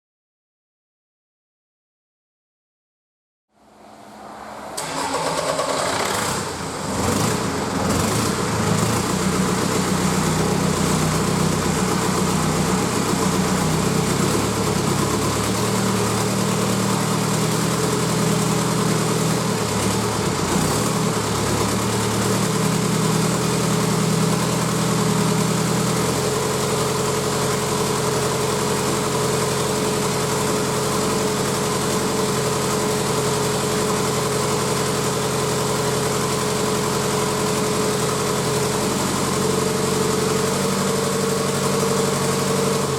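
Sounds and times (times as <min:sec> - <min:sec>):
diesel engine idling: 0:03.6 - 0:42.9.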